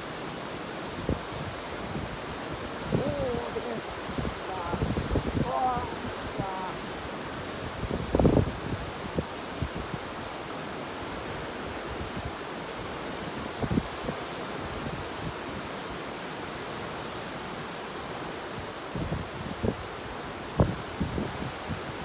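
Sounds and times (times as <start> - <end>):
waves breaking: 0.0 - 18.9.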